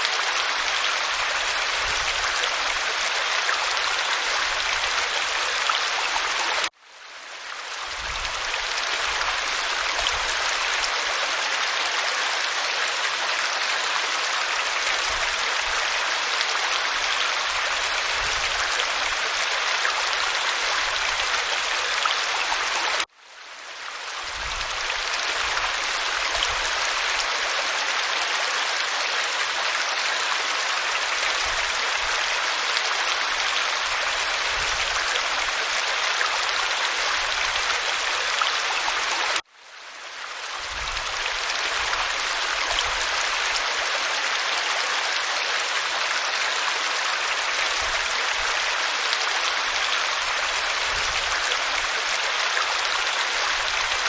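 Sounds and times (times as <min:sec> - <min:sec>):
waterfall rushing over rock: 0:00.0 - 0:06.7, 0:07.6 - 0:23.1, 0:24.2 - 0:39.4, 0:40.4 - 0:54.0.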